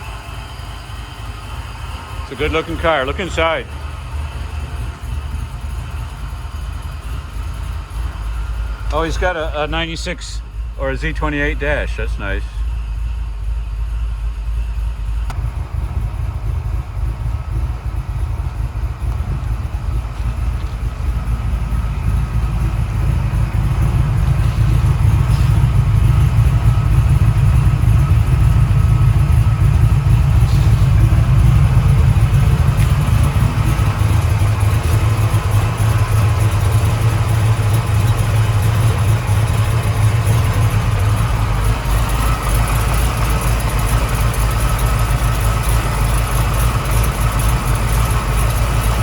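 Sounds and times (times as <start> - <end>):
deep engine idling: 0.0 - 49.0.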